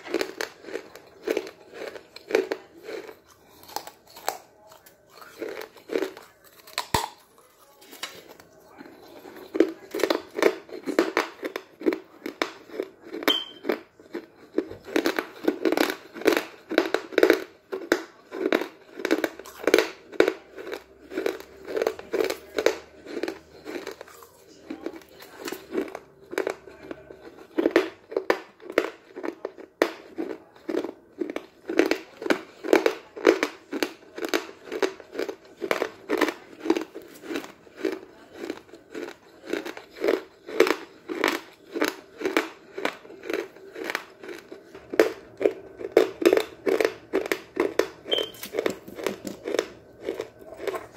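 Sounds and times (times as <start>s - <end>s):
chalk crunching in mouth: 0.0s - 50.9s.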